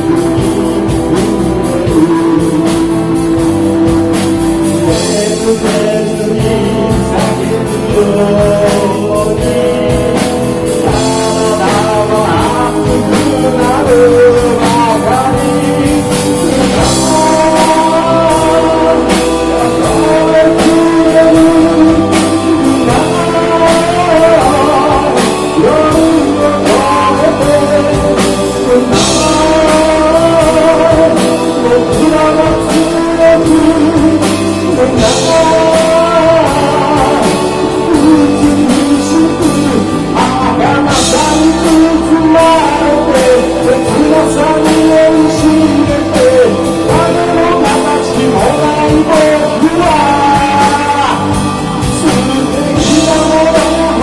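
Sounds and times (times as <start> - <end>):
guitars: 0.0 - 54.0
person singing: 0.0 - 54.0
steady drum beat: 0.0 - 54.0.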